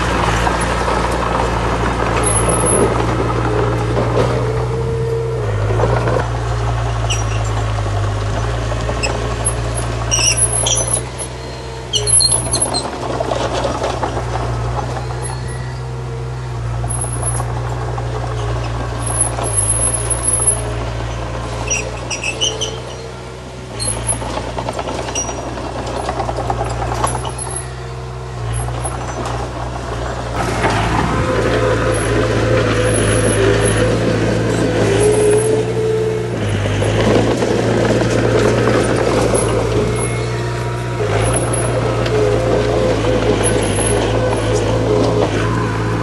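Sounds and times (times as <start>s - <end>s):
heavy diesel machinery running: 0.0s - 46.0s
metallic clanks and squeaks: 0.0s - 46.0s.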